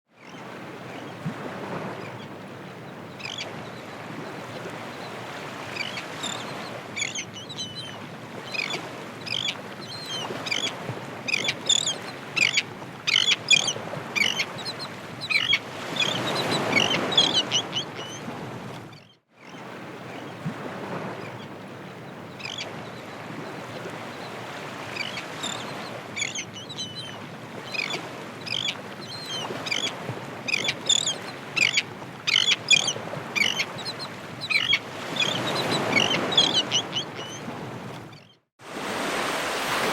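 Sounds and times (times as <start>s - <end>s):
ocean waves washing in: 0.2s - 39.9s.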